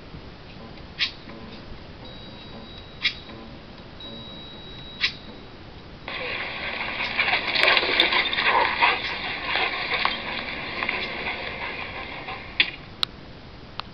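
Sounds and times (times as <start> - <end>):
crackly hissy outdoor sound: 0.0 - 13.9.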